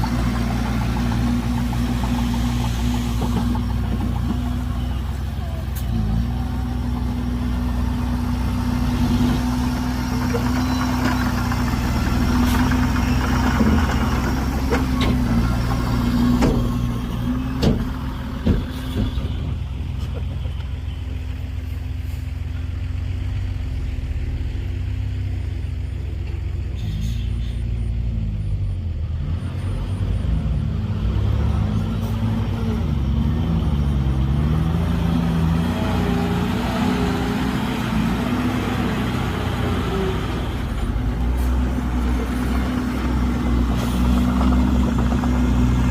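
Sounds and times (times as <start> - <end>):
heavy diesel engine running: 0.0 - 29.1, 30.0 - 45.9.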